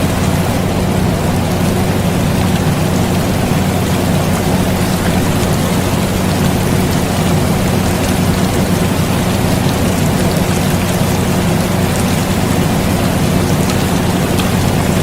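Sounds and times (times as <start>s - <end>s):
air conditioner humming: 0.0s - 15.0s
steady rain pattering: 0.0s - 15.0s.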